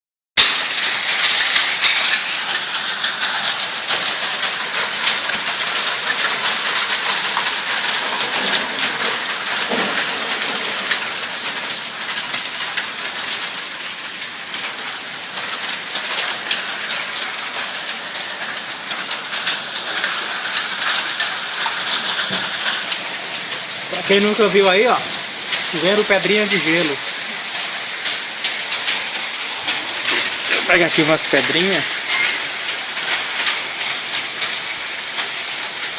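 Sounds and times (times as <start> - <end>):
hail and rain pelting: 0.4 - 35.9
hailstones ticking: 0.4 - 35.9.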